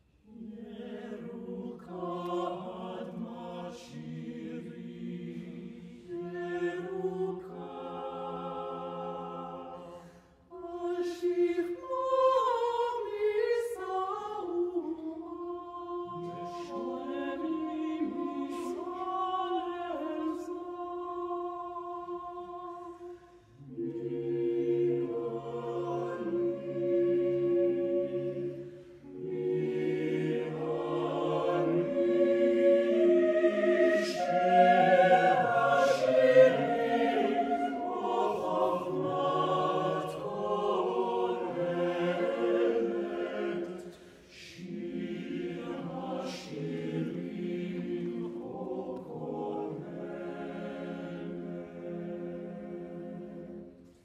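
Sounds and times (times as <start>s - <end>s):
choir singing a cappella: 0.0s - 54.0s.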